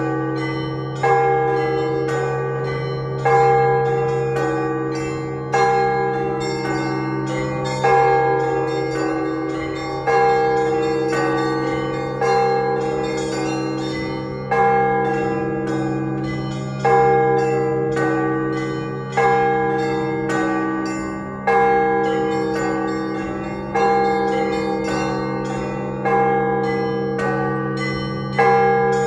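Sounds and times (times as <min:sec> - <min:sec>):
deep church bell strokes: 0:00.0 - 0:29.0
smaller bells ringing: 0:00.0 - 0:29.0.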